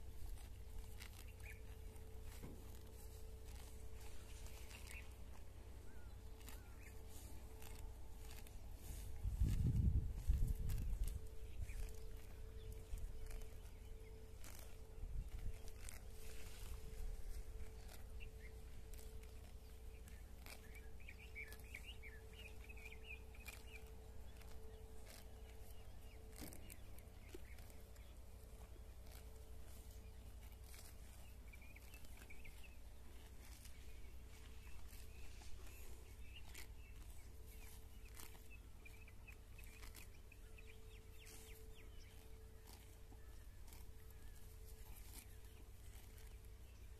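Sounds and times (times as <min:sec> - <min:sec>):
cows tearing grass: 0:00.0 - 0:46.9
small bird chirping: 0:00.2 - 0:46.9.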